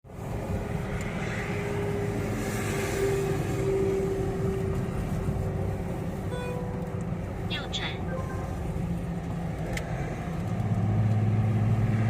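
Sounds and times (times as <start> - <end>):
low engine rumble: 0.1 - 12.0.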